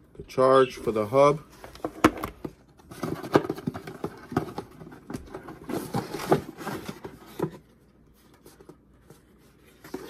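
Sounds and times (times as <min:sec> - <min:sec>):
paper and cardboard rustling: 0:00.6 - 0:10.0.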